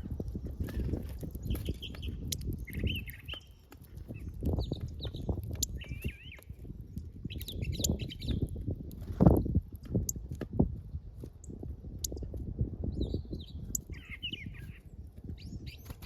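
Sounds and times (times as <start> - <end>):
small birds chirping and twittering: 0.0 - 16.0.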